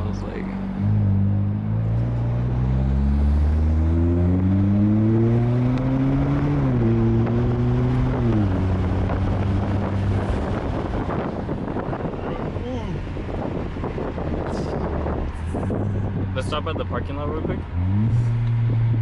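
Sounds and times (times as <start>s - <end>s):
car engine accelerating hard: 0.0s - 19.0s
road and wind noise: 0.0s - 19.0s.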